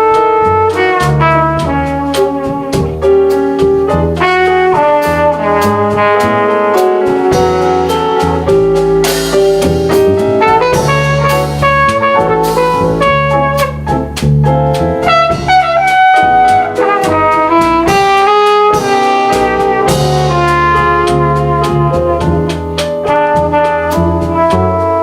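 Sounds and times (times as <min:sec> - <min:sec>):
brass horn melody: 0:00.0 - 0:25.0
drums with cymbal strokes: 0:00.0 - 0:25.0
piano: 0:00.0 - 0:25.0
walking double bass: 0:00.0 - 0:25.0.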